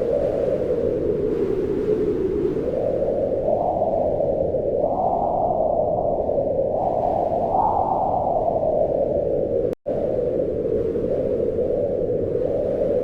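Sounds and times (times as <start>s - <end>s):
wind blowing in gusts: 0.0s - 13.0s.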